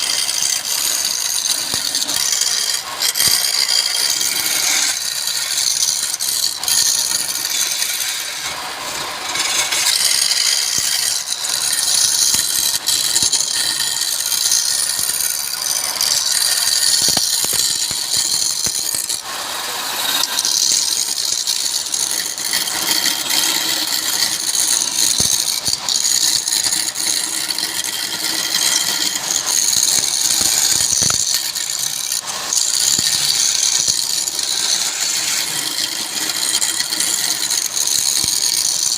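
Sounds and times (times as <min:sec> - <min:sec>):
wood lathe tool scraping: 0:00.0 - 0:38.9.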